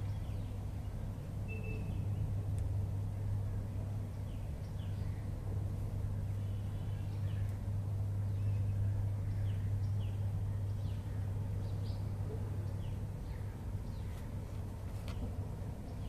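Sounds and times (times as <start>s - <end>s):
birds chirping faintly: 0.0s - 16.0s
steady low hum: 0.0s - 16.0s.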